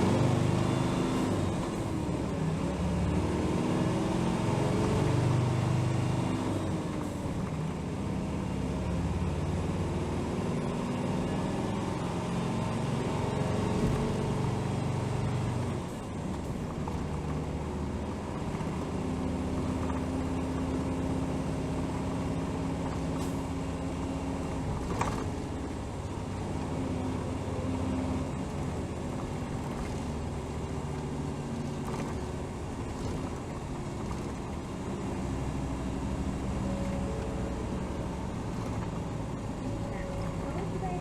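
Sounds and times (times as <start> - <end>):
bus diesel engine running: 0.0 - 41.0.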